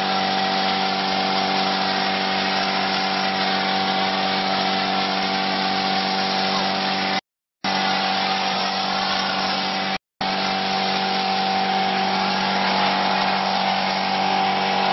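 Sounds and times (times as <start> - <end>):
machine motor hum: 0.0 - 14.9.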